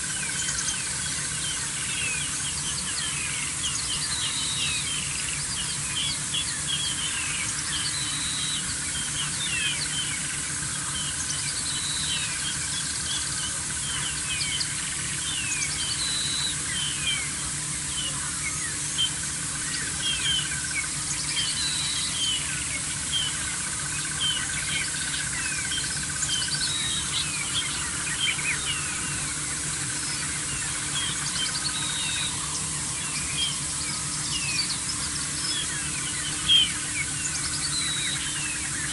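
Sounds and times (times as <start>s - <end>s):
low steady hum: 0.0s - 38.9s
small birds chirping: 0.0s - 38.9s.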